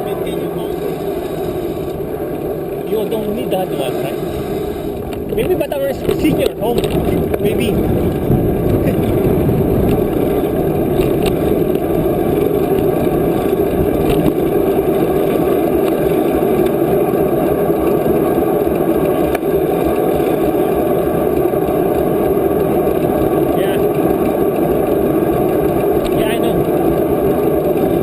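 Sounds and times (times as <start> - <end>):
bicycle tyre noise: 0.0 - 28.0
wind rushing over microphone: 0.0 - 28.0.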